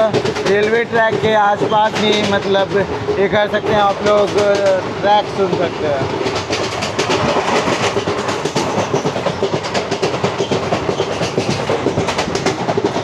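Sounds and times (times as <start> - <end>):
train rumble and hum: 0.0 - 13.0
train wheels clattering on rails: 0.0 - 13.0.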